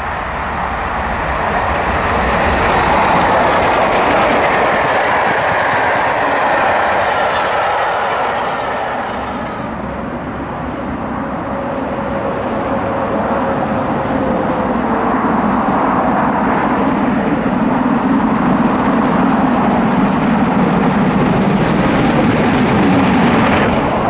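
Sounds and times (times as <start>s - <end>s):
steam locomotive running: 0.0s - 24.0s
train coaches clattering: 0.0s - 24.0s.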